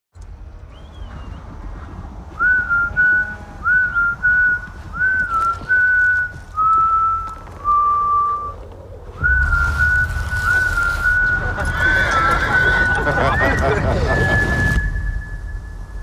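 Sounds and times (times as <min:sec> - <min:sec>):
steady low rumble: 0:00.2 - 0:16.0
person whistling a slow tune: 0:02.4 - 0:08.6, 0:09.2 - 0:16.0.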